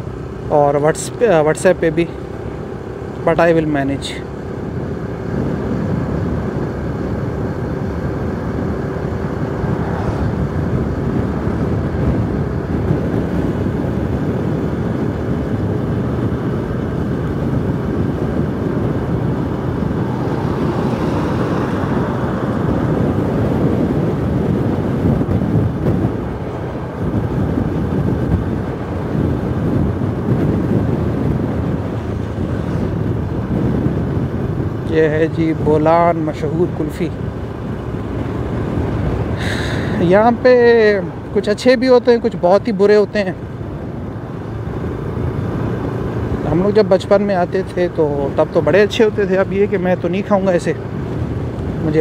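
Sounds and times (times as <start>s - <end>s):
road noise: 0.0s - 52.0s
wind noise: 0.0s - 52.0s.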